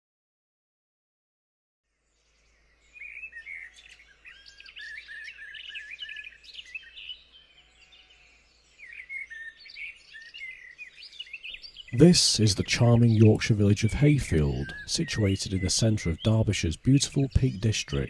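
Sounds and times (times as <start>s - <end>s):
songbirds singing and chirping: 1.9s - 18.0s.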